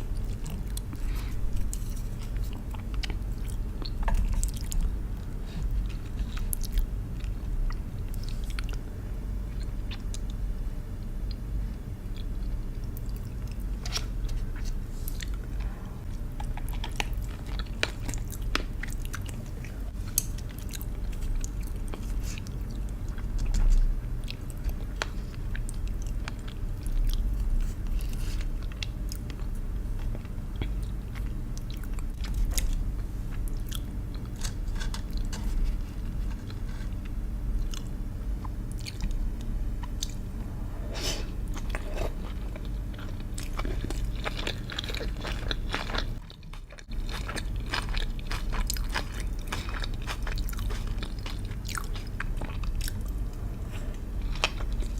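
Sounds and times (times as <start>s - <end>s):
chewing and biting: 0.0s - 8.8s, 12.1s - 40.3s, 41.4s - 54.9s
steady low hum: 0.0s - 54.9s.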